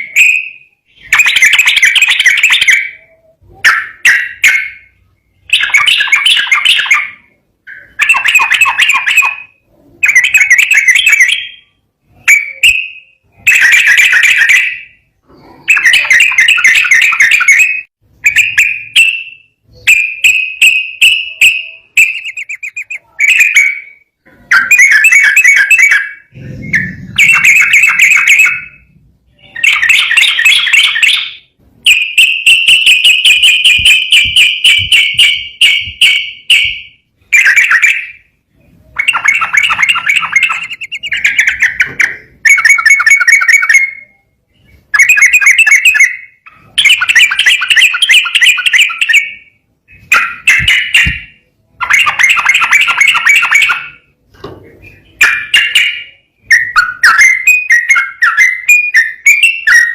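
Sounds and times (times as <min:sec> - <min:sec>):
bulbul singing: 0:00.0 - 0:54.2, 0:54.8 - 0:59.9.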